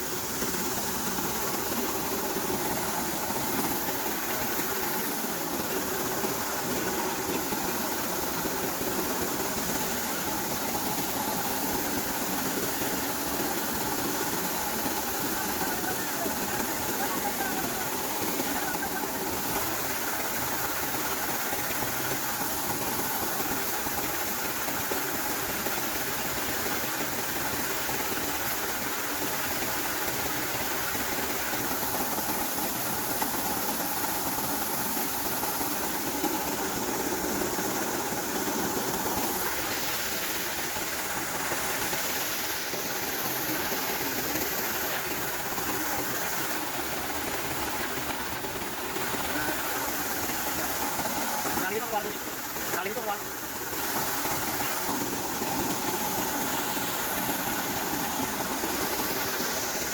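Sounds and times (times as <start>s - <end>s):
corn threshing machine running: 0.1s - 59.9s.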